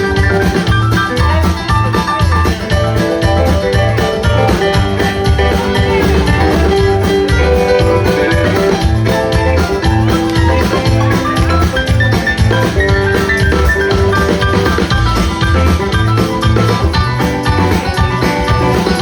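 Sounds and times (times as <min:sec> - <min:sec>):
drums steady beat: 0:00.0 - 0:19.0
live band playing: 0:00.0 - 0:19.0.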